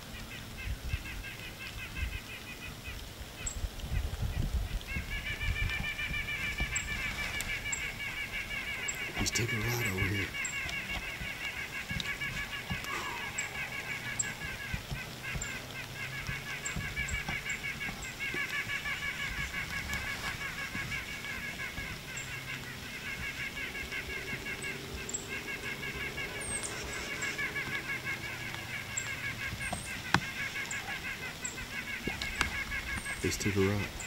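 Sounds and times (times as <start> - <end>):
pulsed animal calls: 0.2 - 34.0.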